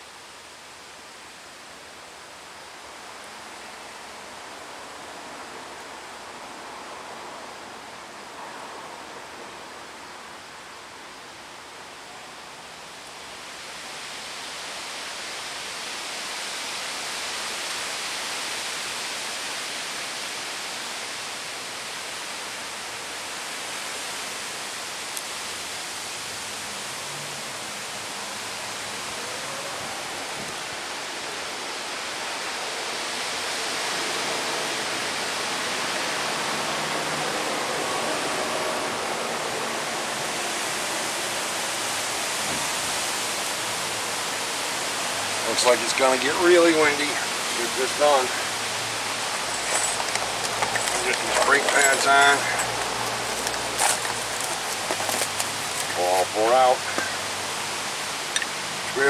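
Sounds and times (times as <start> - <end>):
wind rushing through trees: 0.0 - 59.0.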